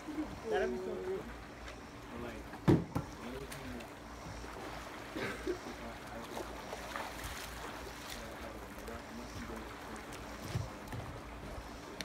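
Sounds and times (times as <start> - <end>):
faint voices: 0.0 - 12.0
pool water lapping and dripping: 0.0 - 12.0.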